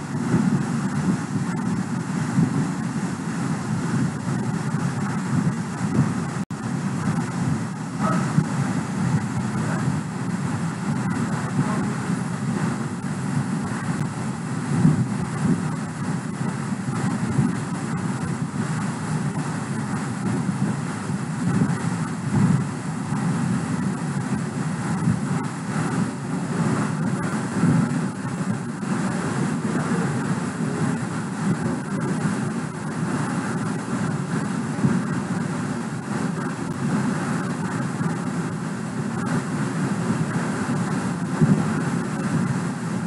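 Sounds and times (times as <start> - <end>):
low rumbling noise: 0.0 - 43.0.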